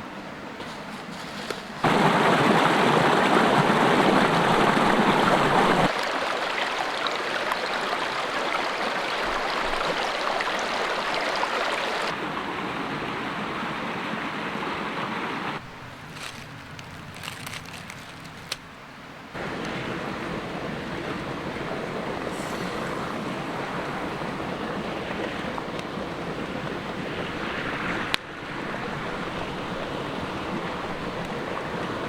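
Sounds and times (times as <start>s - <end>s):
creek water rushing: 0.2s - 32.0s.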